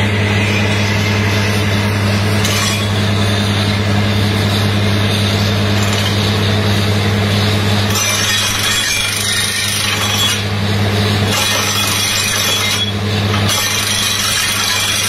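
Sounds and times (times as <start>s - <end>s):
drilling rig machine drone: 0.0s - 15.0s.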